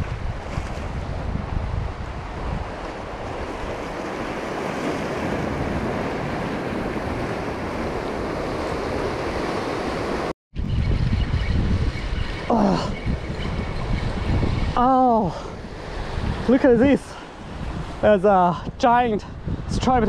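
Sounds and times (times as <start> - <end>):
ocean surf on rocks: 0.0 - 10.3, 12.2 - 20.0
wind rumbling on microphone: 0.0 - 20.0.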